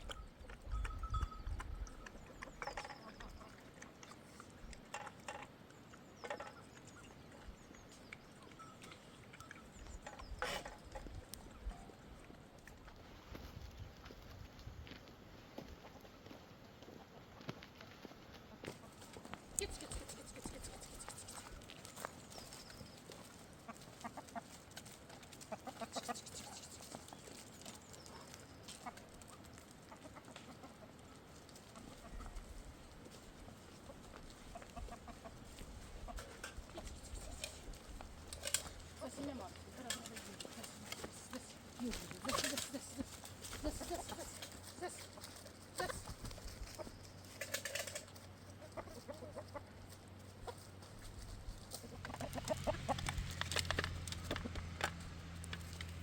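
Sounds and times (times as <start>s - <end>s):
chickens clucking: 0.0s - 11.8s, 16.8s - 56.0s.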